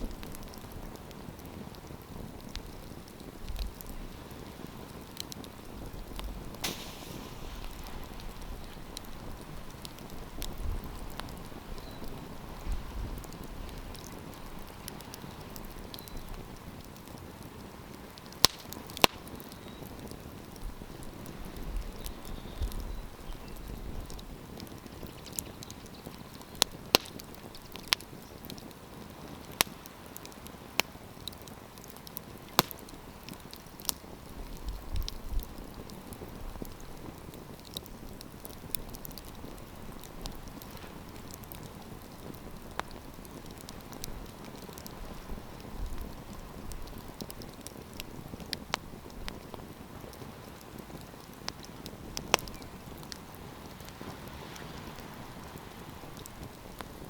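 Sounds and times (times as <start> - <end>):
campfire crackling: 0.0 - 57.0
wind rumble on microphone: 0.0 - 57.0.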